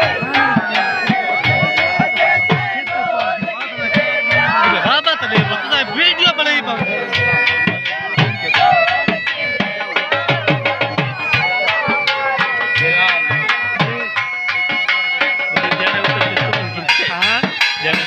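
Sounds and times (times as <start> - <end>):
dhol drums beating: 0.0 - 18.0
shehnai melody: 0.0 - 18.0.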